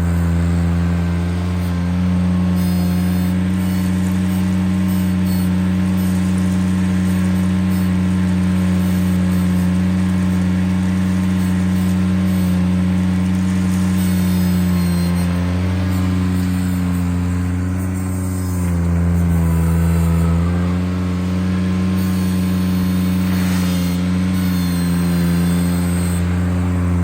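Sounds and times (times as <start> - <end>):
tractor engine at high revs: 0.0 - 27.0.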